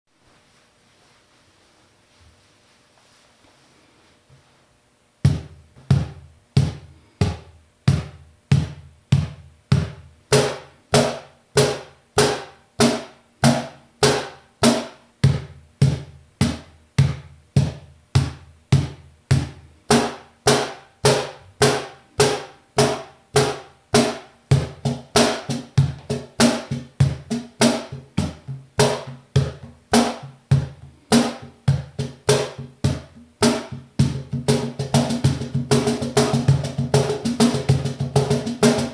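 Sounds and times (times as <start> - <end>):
cajon played by hand: 5.3 - 38.9.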